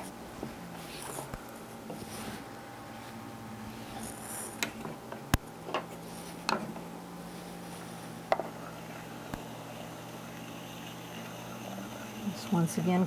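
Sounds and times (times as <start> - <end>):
potter's wheel humming: 0.0 - 13.0.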